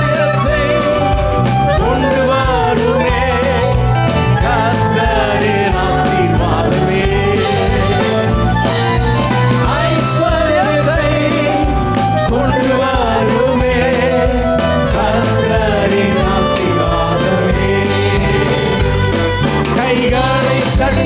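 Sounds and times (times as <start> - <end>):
singing: 0.0 - 8.3, 9.6 - 21.0
band playing worship song: 0.0 - 21.0.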